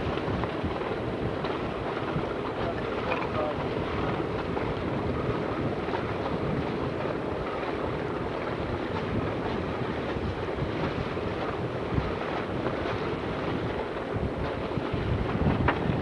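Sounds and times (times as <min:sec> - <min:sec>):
water washing along hull: 0:00.0 - 0:16.0
wind buffeting microphone: 0:00.0 - 0:16.0.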